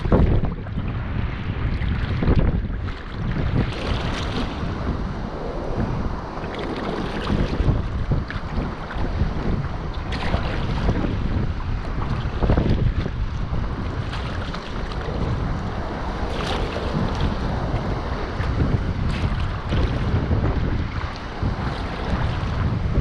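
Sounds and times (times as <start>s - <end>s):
water sloshing and splashing: 0.0s - 23.0s
wind rumbling on microphone: 0.0s - 23.0s.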